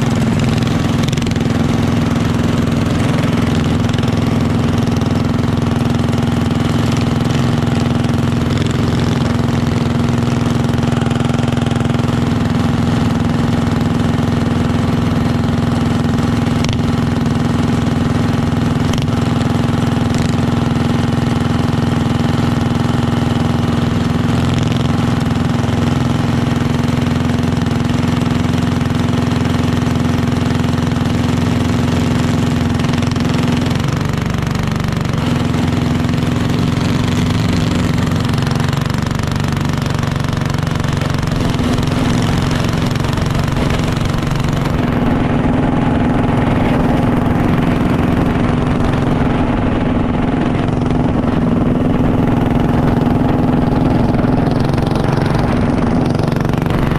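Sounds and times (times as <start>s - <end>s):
kart engine idling: 0.0s - 56.9s.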